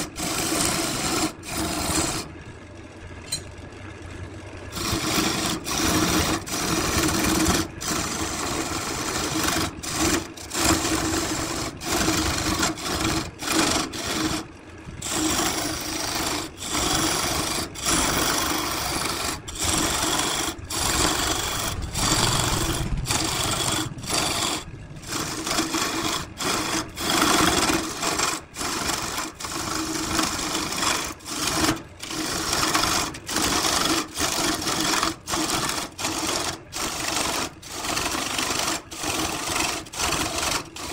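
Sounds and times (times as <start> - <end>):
chisel scraping spinning wood: 0.0 - 2.4, 4.6 - 40.9
lathe motor hum: 0.0 - 40.9.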